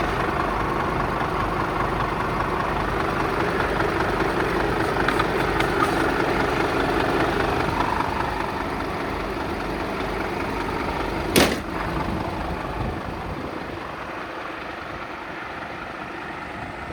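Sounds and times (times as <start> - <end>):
diesel engine idling: 0.0 - 16.9.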